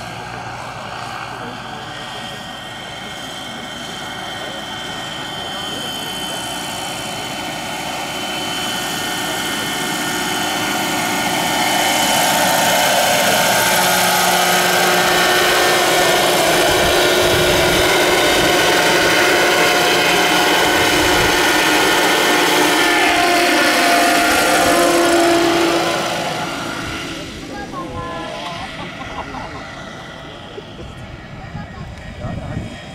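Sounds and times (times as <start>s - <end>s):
model helicopter flying past: 0.0s - 32.9s
motor and gear whine: 0.0s - 32.9s
rotor noise: 0.0s - 32.9s.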